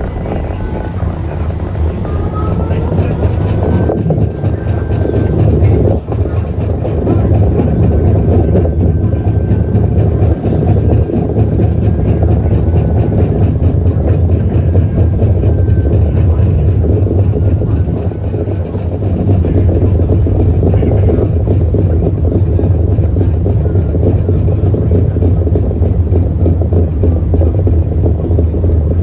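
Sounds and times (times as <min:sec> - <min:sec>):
streetcar motors and wheels droning: 0:00.0 - 0:29.0.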